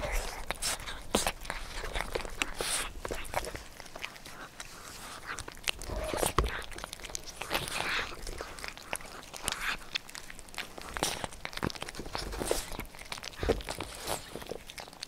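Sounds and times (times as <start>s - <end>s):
cats chewing and lapping: 0.0s - 15.0s.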